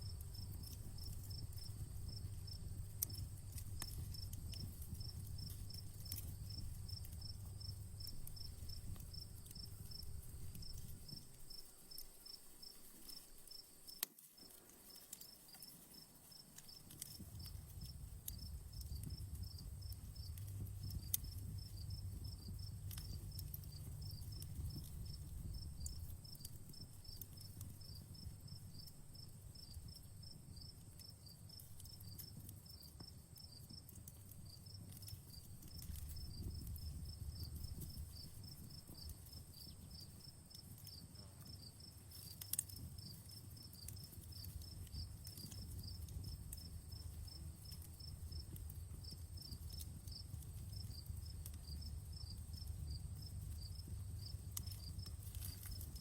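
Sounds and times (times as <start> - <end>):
campfire crackling: 0.0 - 56.0
insects chirping: 0.0 - 56.0.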